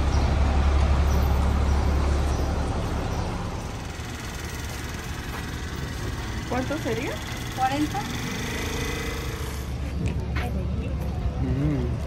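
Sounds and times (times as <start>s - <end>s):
low vehicle engine rumble: 0.0s - 12.0s
street noise: 0.0s - 12.0s.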